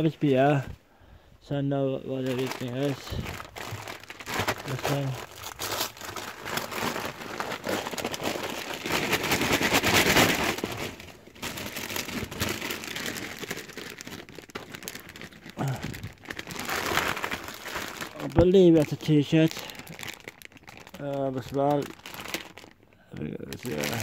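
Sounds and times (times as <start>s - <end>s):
wrapping paper crinkling and tearing: 0.0s - 0.6s, 2.1s - 24.0s.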